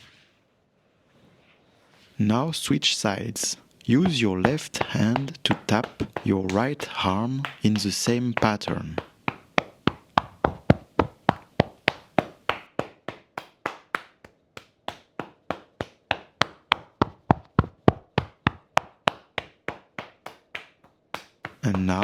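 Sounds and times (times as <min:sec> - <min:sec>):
hand patting arm: 0:03.3 - 0:22.0.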